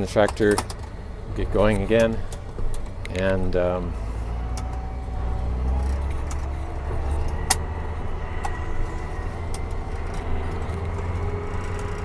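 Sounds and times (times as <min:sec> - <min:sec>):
sharp clicks and rattles: 0:00.0 - 0:12.0
tractor engine droning: 0:00.0 - 0:12.0.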